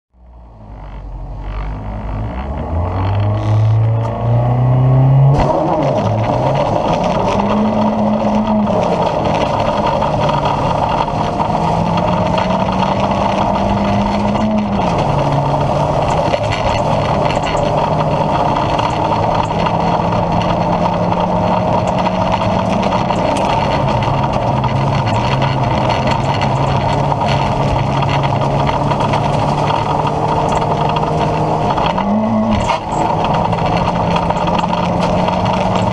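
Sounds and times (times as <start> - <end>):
rally car engine accelerating: 0.2 - 35.9.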